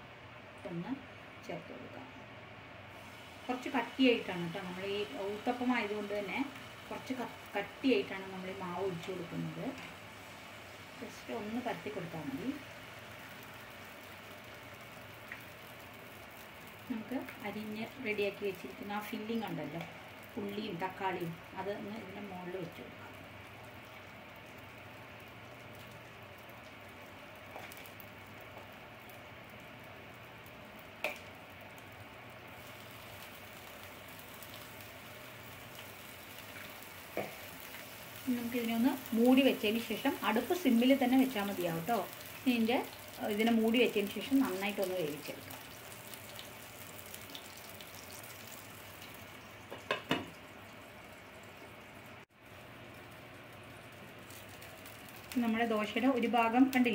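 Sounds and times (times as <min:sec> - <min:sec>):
batter frying in pan: 0:02.8 - 0:56.9.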